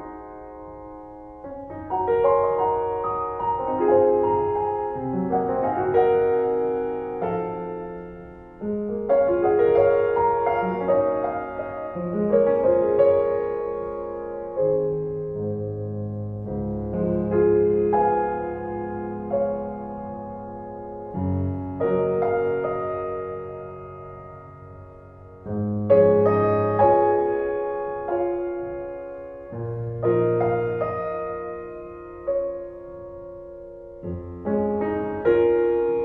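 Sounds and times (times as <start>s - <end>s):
slow piano music: 0.0s - 36.0s.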